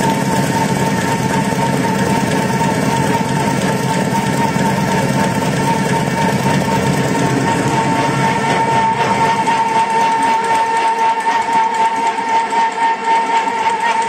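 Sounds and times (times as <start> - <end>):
machine high whine: 0.0 - 14.0
machine rollers clattering: 0.0 - 14.0.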